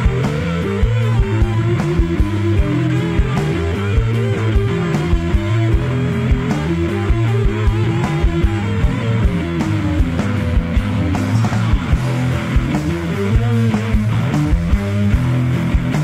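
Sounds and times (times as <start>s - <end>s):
rock band playing: 0.0s - 16.0s
steady kick drum beat: 0.0s - 16.0s.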